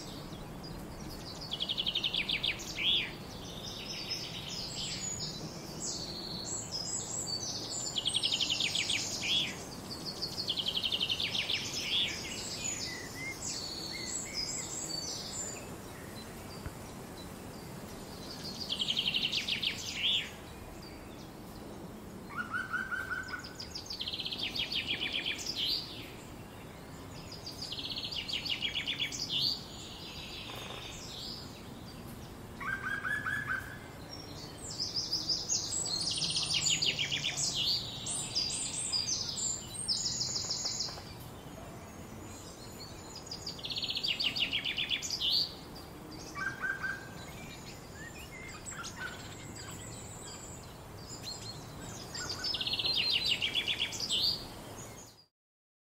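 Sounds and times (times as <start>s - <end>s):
songbirds chirping: 0.0s - 55.3s.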